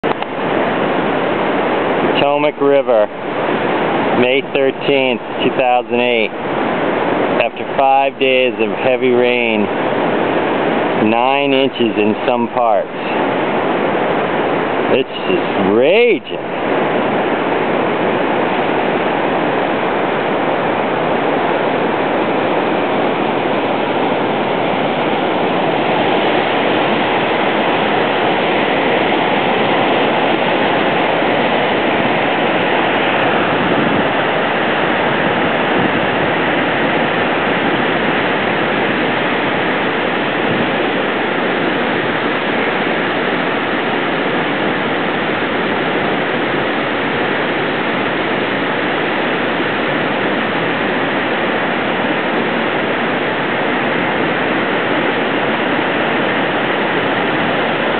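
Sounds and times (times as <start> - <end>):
rushing whitewater: 0.0 - 57.9.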